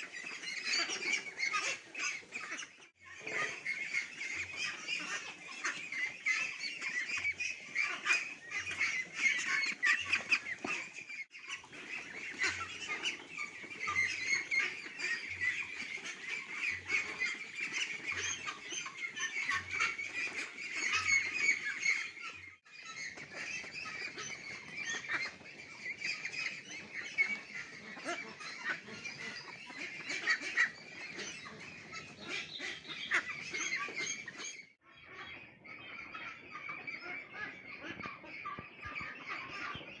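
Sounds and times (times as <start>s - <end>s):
ducklings calling: 0.0s - 40.0s.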